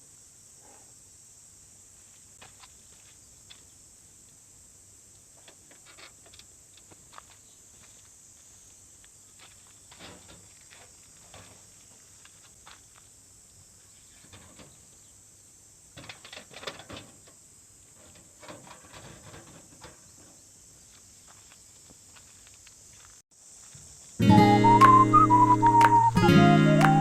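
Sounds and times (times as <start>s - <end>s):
steady high hiss: 0.0s - 16.2s, 19.8s - 27.0s.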